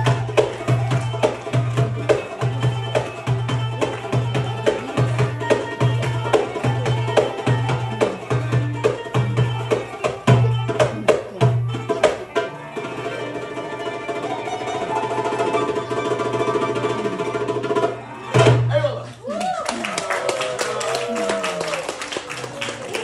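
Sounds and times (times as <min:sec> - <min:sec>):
hand drum rhythm: 0:00.0 - 0:18.7
plucked string instrument: 0:00.0 - 0:19.0.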